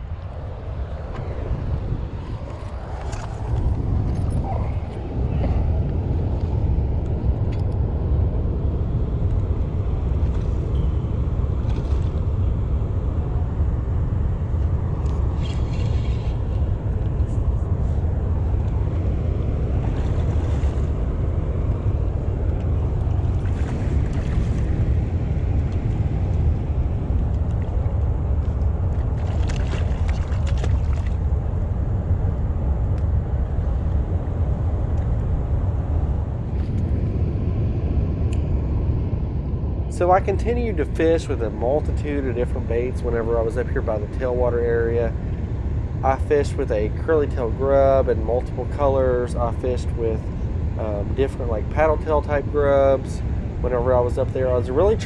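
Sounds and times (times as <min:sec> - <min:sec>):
water rushing roar: 0:00.0 - 0:55.0.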